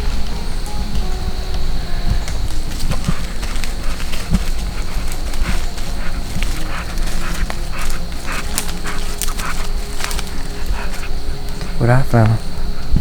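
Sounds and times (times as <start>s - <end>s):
dog breathing and snuffling: 0.0s - 13.0s.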